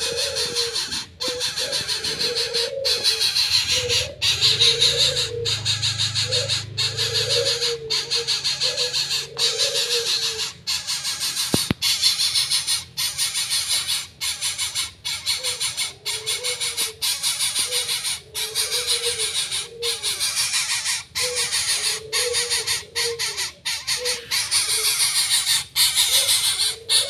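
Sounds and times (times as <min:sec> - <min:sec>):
bird making low wavering calls: 0:00.0 - 0:27.0.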